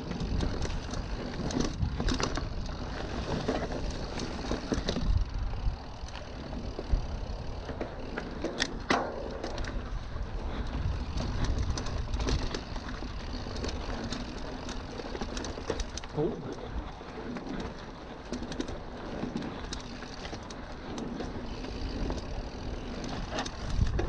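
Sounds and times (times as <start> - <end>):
wind buffeting microphone: 0.0 - 8.4, 9.5 - 24.0
bike rattling: 0.0 - 24.0
bike tyres rumbling over dirt: 0.0 - 24.0.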